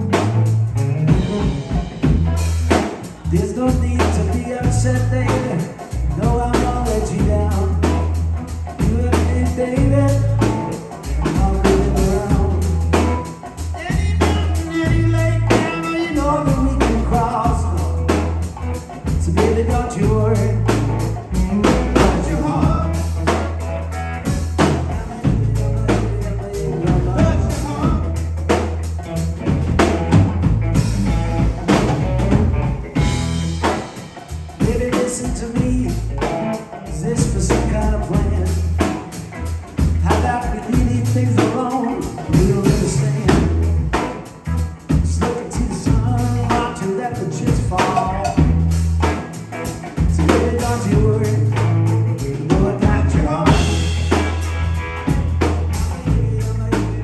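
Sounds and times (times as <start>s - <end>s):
drum kit beat: 0.0s - 57.0s
electric bass: 0.0s - 57.0s
electric guitar: 0.0s - 57.0s.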